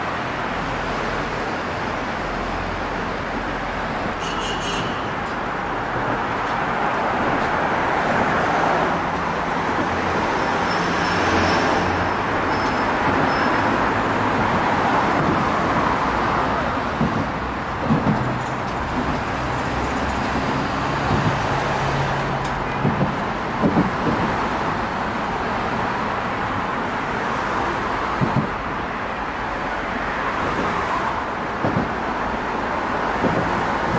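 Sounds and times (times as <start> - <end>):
road traffic passing: 0.0 - 33.9.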